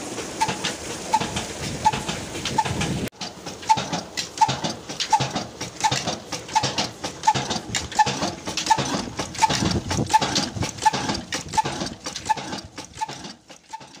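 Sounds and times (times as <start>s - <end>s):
stationary diesel engine knocking: 0.0s - 14.0s
valve-gear clatter: 0.0s - 14.0s.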